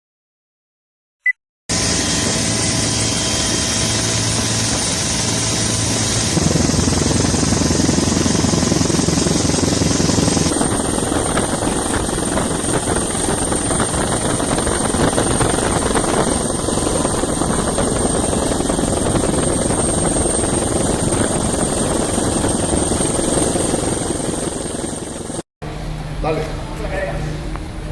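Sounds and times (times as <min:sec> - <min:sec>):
helicopter rotor and engine din: 0:01.7 - 0:27.9.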